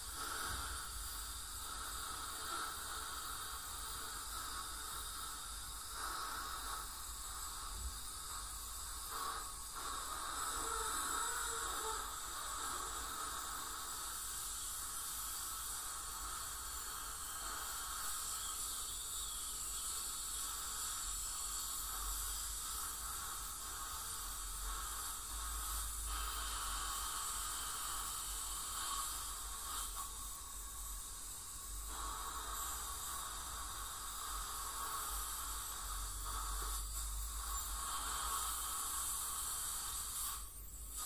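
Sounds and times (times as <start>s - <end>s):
water spray and suction hiss: 0.0s - 41.0s.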